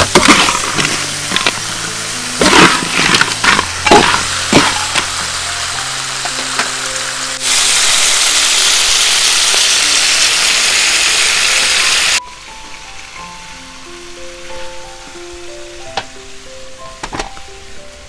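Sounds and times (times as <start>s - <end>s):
food sizzling in hot pan: 0.0s - 16.6s
background music: 0.0s - 18.0s.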